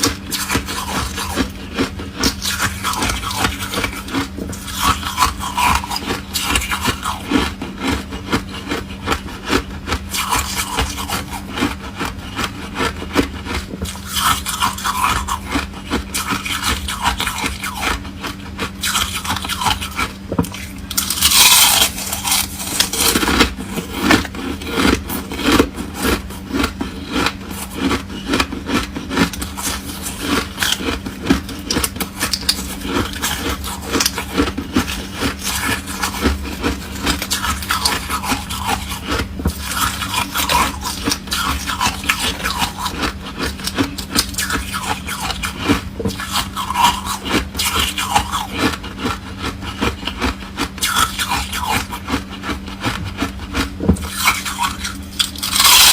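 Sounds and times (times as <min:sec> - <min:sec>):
chewing crunches: 0:00.0 - 0:55.9.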